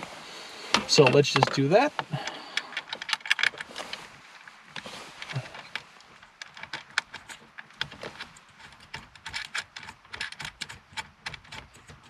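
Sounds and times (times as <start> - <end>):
plastic connectors clicking and rattling: 0.7 - 4.0, 5.2 - 12.0.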